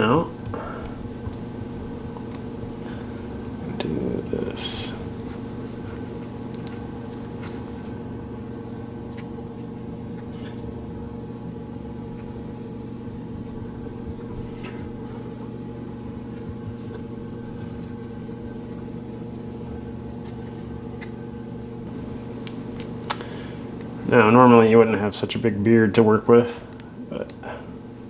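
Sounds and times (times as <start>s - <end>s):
low equipment hum: 0.0s - 28.0s.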